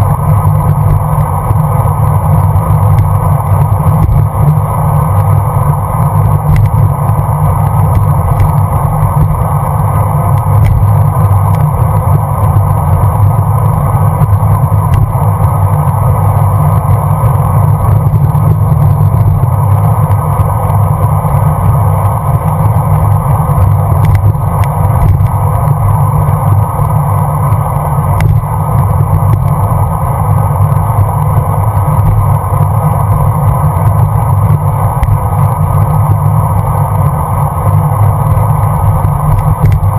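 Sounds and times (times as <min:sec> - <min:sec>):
bicycle road noise: 0:00.0 - 0:39.9
loud wind rumble: 0:00.0 - 0:39.9.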